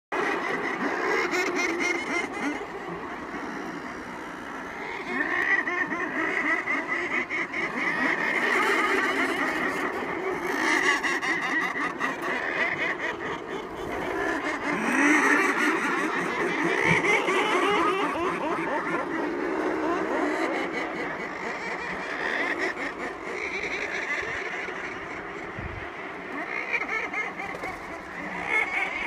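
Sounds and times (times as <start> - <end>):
seabird colony calling: 0.2 - 29.0.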